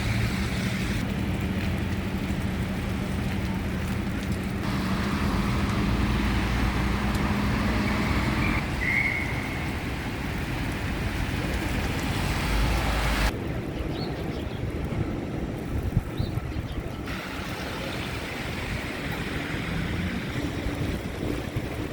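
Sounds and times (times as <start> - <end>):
engine hum: 0.0 - 13.7, 14.7 - 21.9
cars driving on snowy street: 0.0 - 21.9.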